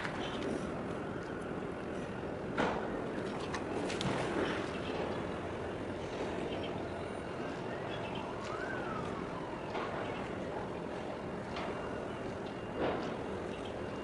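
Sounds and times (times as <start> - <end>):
engines and traffic: 0.0 - 14.0.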